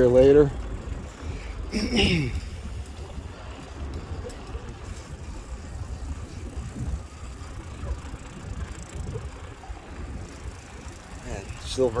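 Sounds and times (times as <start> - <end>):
bicycle riding rumble: 0.0 - 12.0.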